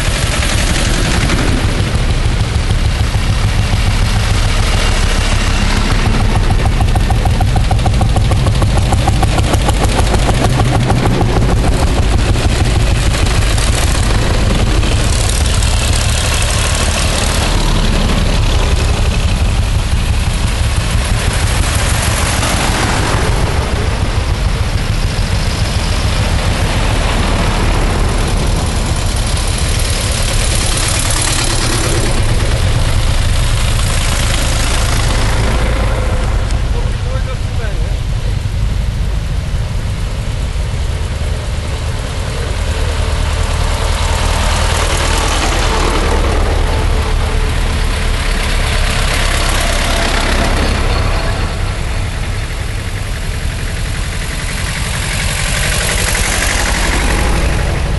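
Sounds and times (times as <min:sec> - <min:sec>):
tractors driving past: 0:00.0 - 0:57.9.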